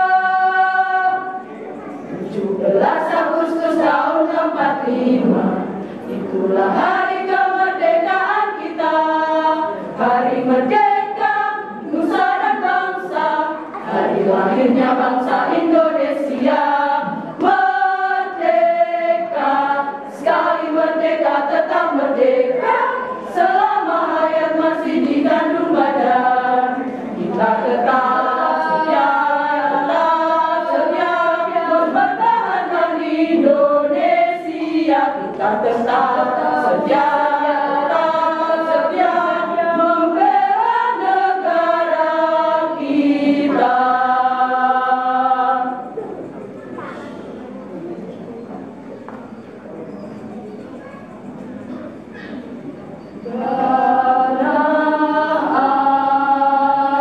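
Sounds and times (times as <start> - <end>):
women's choir singing: 0.0 - 47.2, 51.7 - 57.0.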